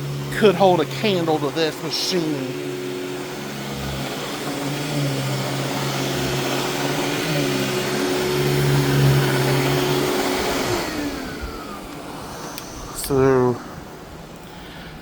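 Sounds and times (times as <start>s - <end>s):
vacuum cleaner running on carpet: 0.0s - 14.4s.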